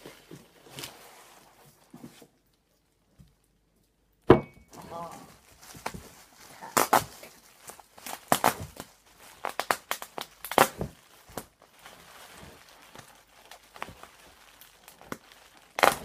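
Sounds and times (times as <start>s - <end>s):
plastic rustling: 0.0s - 4.1s, 4.7s - 16.0s
bubble wrap crackling: 0.0s - 16.0s.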